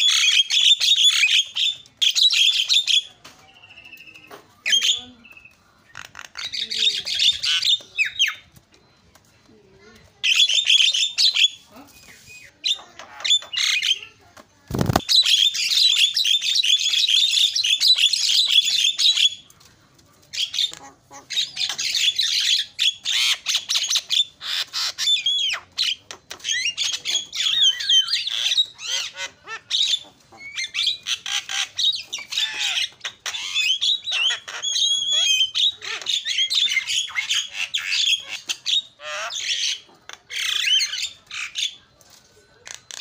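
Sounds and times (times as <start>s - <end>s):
myna bird singing: 0.0s - 19.6s, 20.3s - 43.0s.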